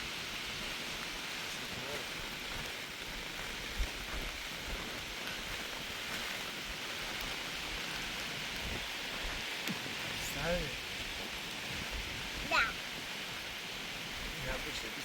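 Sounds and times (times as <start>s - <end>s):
rain falling: 0.0s - 15.0s
wind thumps on microphone: 2.4s - 14.6s.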